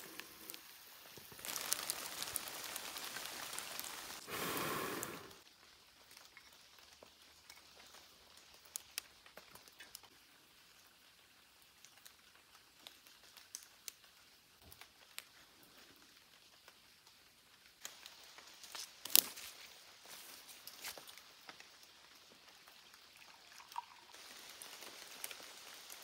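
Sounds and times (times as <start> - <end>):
drips falling on leaves: 0.0 - 26.0
faint hiss: 0.0 - 26.0.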